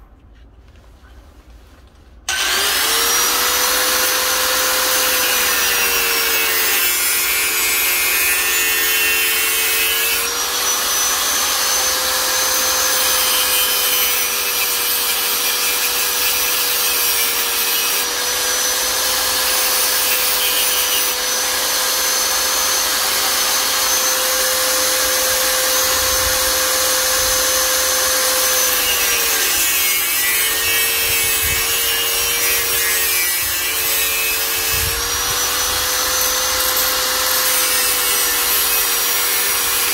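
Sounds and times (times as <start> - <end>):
power tool grinding: 2.3 - 39.9.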